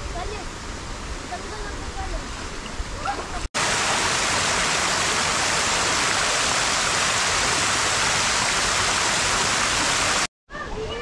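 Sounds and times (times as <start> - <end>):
creek water over rocks: 0.2 - 10.3.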